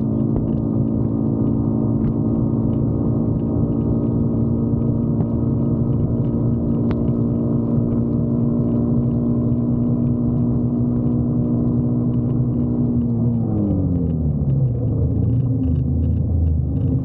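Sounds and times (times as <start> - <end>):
motorcycle engine drone: 0.0 - 17.0
road rumble: 0.0 - 17.0.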